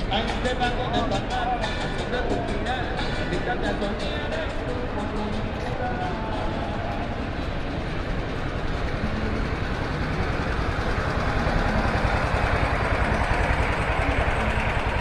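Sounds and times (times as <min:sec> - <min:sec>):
street traffic noise: 0:00.0 - 0:15.0
vehicle engine running nearby: 0:00.0 - 0:15.0.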